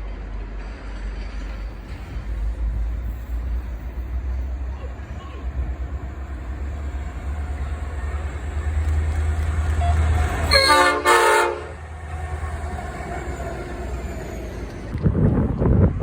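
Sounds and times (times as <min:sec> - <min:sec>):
train locomotive rumbling: 0:00.0 - 0:16.0
train horn: 0:01.4 - 0:14.9.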